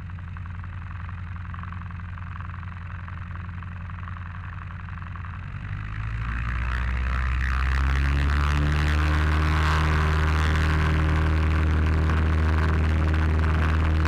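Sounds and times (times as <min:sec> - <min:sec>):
light aircraft engine and propeller: 0:00.0 - 0:14.0.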